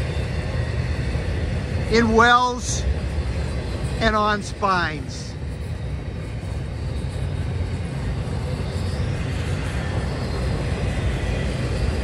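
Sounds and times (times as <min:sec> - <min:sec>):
freight train rolling past: 0:00.0 - 0:12.0
steel wheels on rail: 0:00.0 - 0:12.0.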